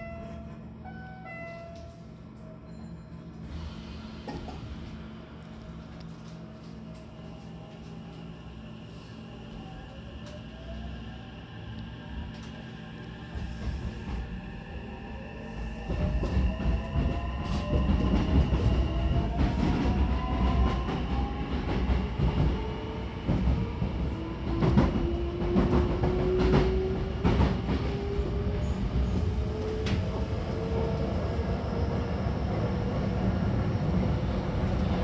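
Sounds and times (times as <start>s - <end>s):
train rumble: 0.0s - 35.0s.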